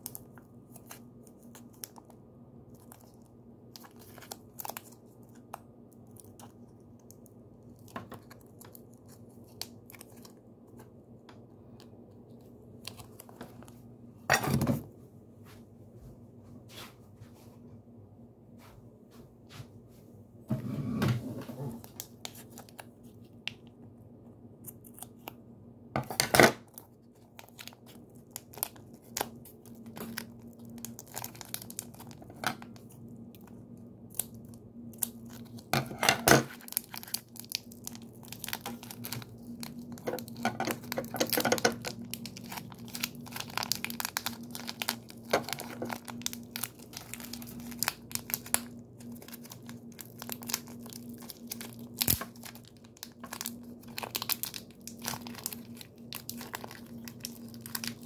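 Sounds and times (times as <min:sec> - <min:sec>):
plastic wrapping crinkling: 0:00.0 - 0:11.0, 0:11.6 - 0:13.8, 0:21.7 - 0:23.6, 0:26.0 - 0:58.0
faint steady hum: 0:00.0 - 0:58.0.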